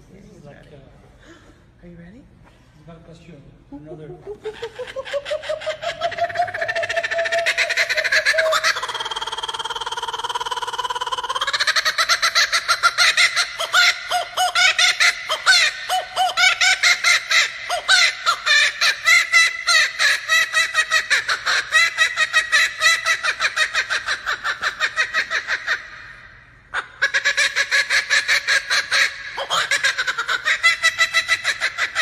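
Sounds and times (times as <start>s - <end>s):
kookaburra laughing call: 3.9s - 32.0s.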